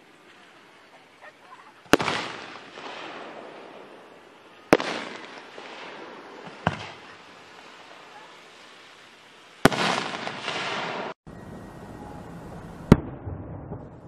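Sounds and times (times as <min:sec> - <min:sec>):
fireworks bursting: 0:00.0 - 0:11.2, 0:12.0 - 0:14.0.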